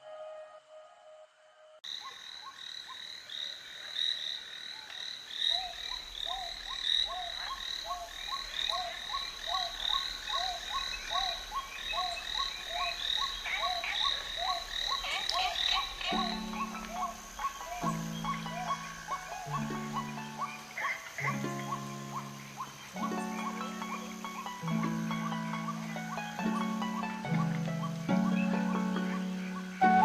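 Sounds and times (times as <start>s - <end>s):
frogs calling: 1.8s - 30.0s.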